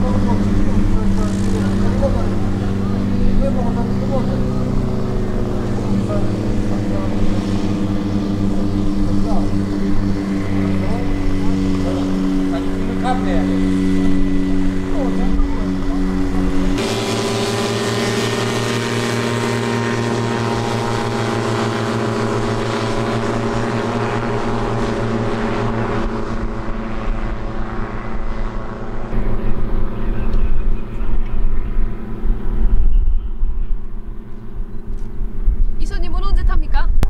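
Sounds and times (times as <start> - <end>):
microlight engine droning: 0.0 - 37.0.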